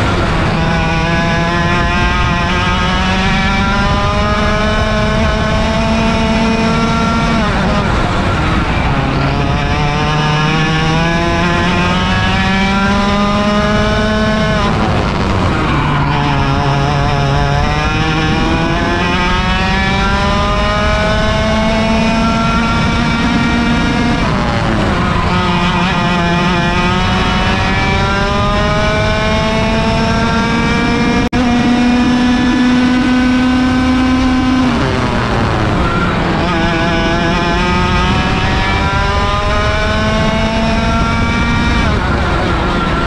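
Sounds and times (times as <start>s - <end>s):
kart engine revving: 0.0s - 43.0s.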